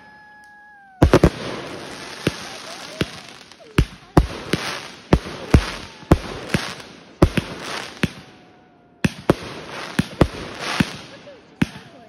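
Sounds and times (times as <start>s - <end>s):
fireworks crackling hiss: 0.0s - 8.4s, 9.1s - 12.0s
fireworks bangs: 0.0s - 12.0s.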